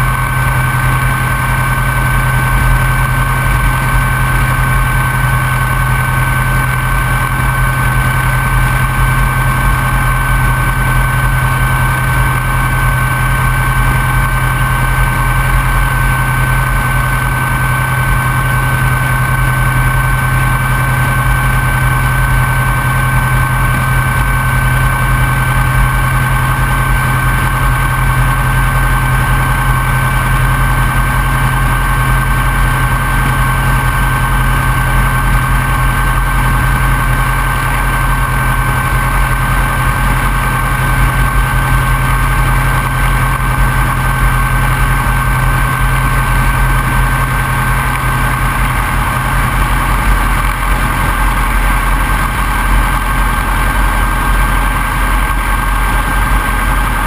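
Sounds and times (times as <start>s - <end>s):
piston engine idling: 0.0s - 57.0s.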